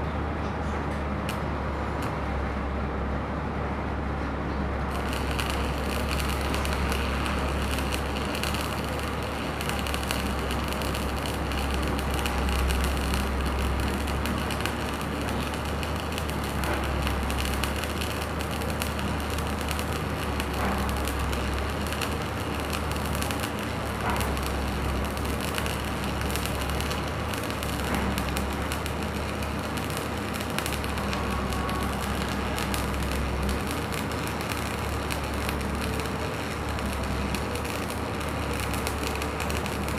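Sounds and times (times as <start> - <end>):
welding arc crackling and sizzling: 1.1 - 2.5, 4.8 - 39.9.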